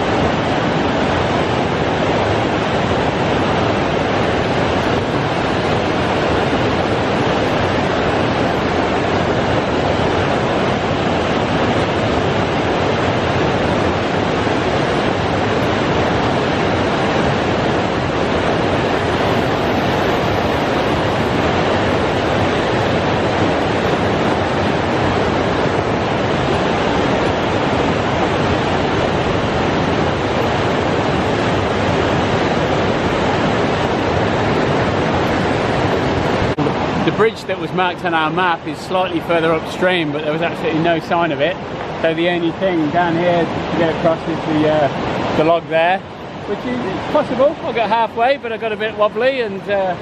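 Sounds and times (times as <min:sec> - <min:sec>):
river rushing over boulders: 0:00.0 - 0:50.0.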